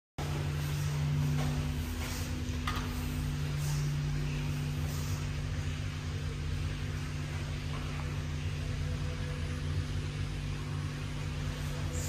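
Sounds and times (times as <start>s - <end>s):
lift mechanical hum: 0.2s - 12.0s.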